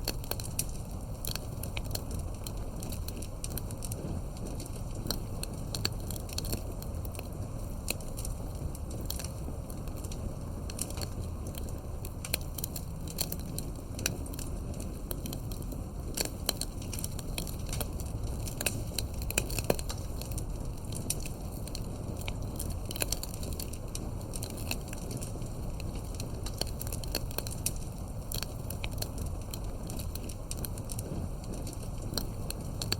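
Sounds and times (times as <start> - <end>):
burning wood crackling and popping: 0.0 - 32.9
campfire low rumble: 0.0 - 32.9.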